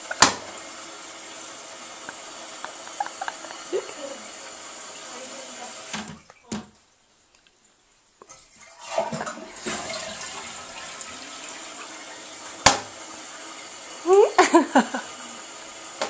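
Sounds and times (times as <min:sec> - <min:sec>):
toilet flushing: 0:00.0 - 0:06.3, 0:08.3 - 0:16.0.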